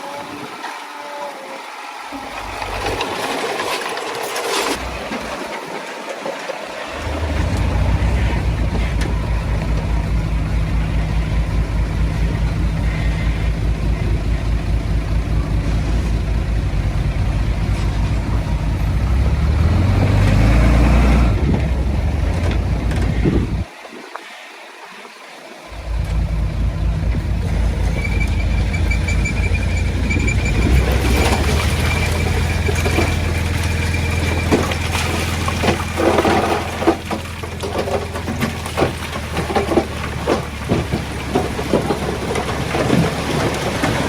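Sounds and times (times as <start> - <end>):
machinery rattling: 1.7 - 23.7, 25.8 - 44.0
diesel engine running: 2.0 - 5.8, 6.7 - 23.7, 25.7 - 44.0.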